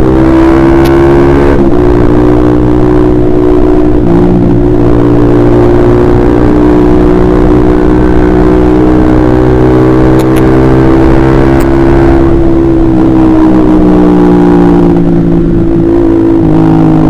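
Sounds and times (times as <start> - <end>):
motorcycle engine running loud: 0.0 - 17.0.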